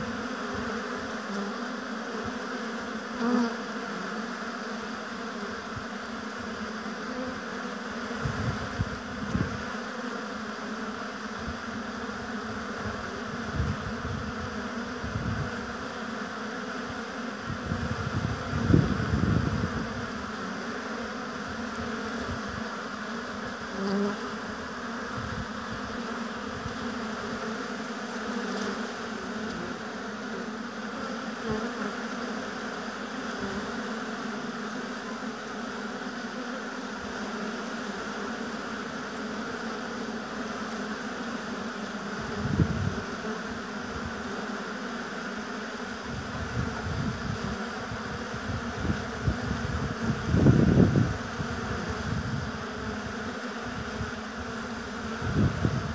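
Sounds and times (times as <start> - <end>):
honey bees buzzing: 0.0 - 55.9.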